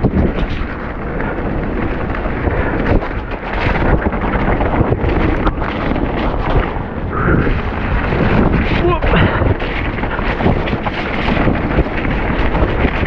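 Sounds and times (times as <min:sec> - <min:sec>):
mountain bike rattling on rocks: 0:00.0 - 0:13.0
wind on microphone: 0:00.0 - 0:13.0.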